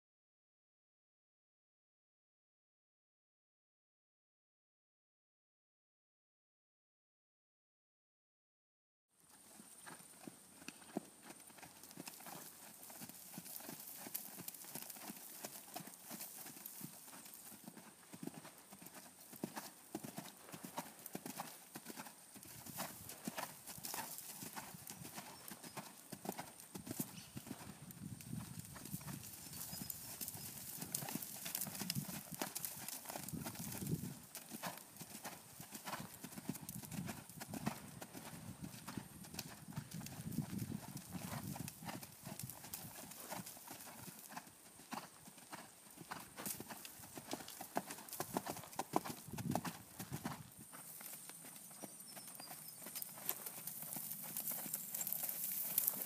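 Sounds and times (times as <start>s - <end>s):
horse hooves clomping on sand: 9.3s - 56.0s.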